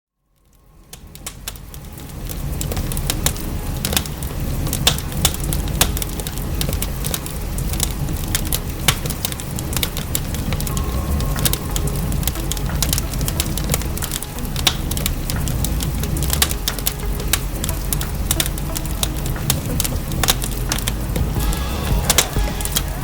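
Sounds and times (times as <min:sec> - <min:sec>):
wood fire crackling: 0:00.2 - 0:23.0
rain falling: 0:00.4 - 0:23.0.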